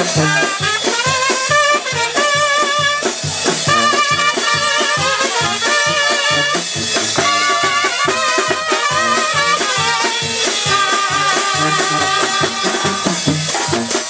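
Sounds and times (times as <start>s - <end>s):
quick drum beat: 0.0s - 14.0s
sousaphone bass line: 0.0s - 14.0s
trumpets playing melody: 0.0s - 14.0s.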